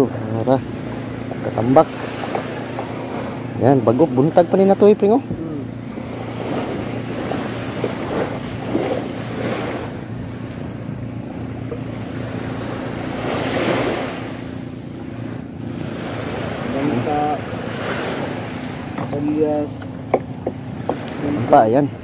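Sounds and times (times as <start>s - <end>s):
surf washing onto beach: 0.0s - 22.0s
wind buffeting microphone: 0.0s - 22.0s.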